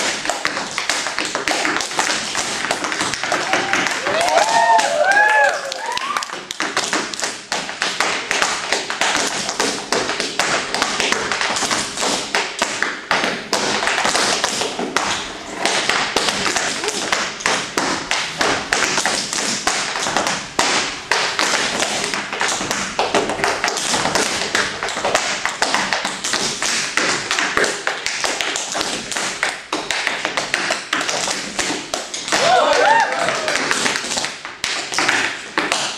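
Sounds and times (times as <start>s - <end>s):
heavy foot stamps: 0.0s - 35.9s
tap shoes on wooden board: 0.0s - 35.9s.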